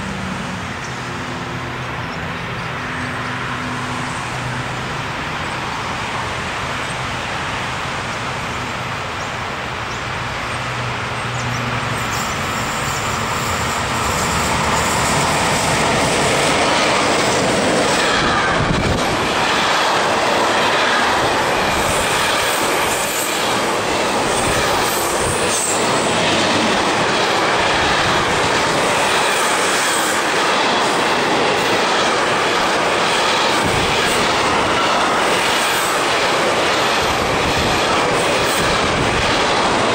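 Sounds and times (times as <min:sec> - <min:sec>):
train low hum: 0:00.0 - 0:39.9
train wheels running over rails: 0:00.0 - 0:39.9.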